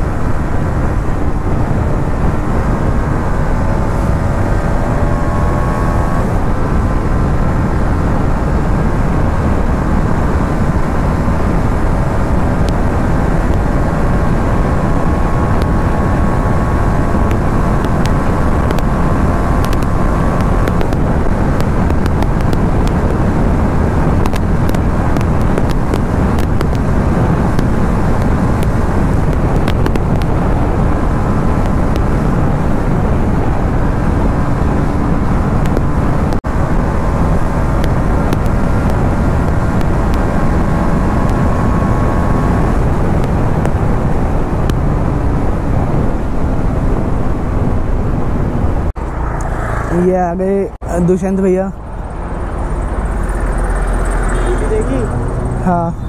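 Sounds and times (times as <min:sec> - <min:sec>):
motorcycle engine drone: 0:00.0 - 0:56.0
wind rush over microphone: 0:00.0 - 0:56.0.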